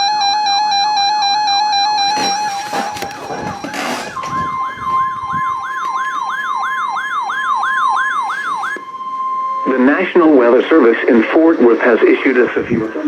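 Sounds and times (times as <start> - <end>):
falling siren-like sweep: 0.0 - 11.8
steady high alarm tone: 0.0 - 12.8.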